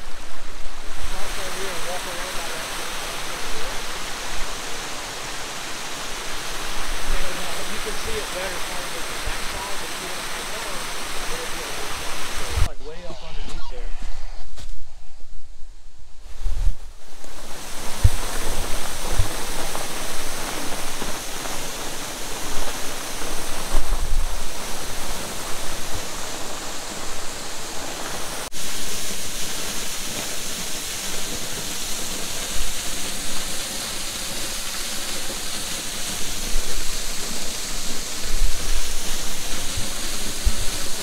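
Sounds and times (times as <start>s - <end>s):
waterfall splashing into pool: 0.0s - 12.7s, 17.2s - 41.0s.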